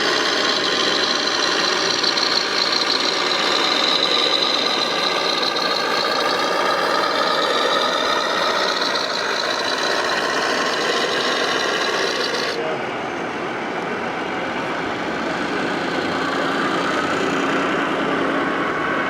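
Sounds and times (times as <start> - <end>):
small machines running: 0.0 - 12.6, 13.6 - 19.0.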